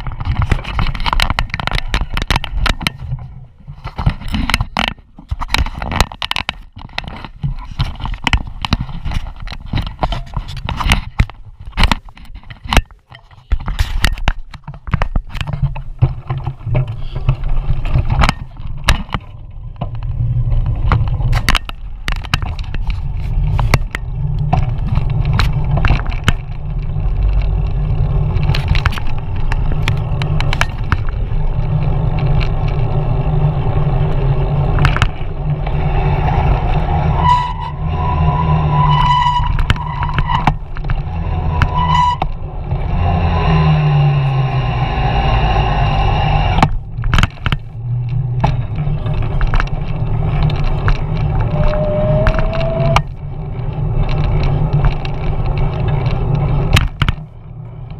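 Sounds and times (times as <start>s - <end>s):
bike knocks and rattles: 0.0s - 36.9s, 38.9s - 42.4s, 46.5s - 57.9s
road rumble: 0.0s - 57.9s
steady whine: 0.0s - 57.9s.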